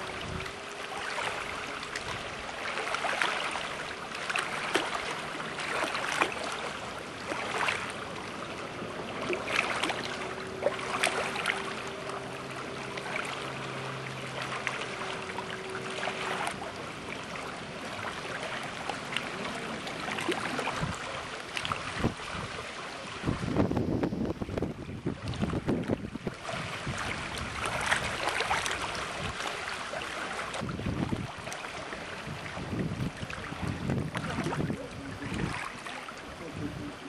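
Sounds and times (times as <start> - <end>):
water slapping against boat hull: 0.0 - 37.0.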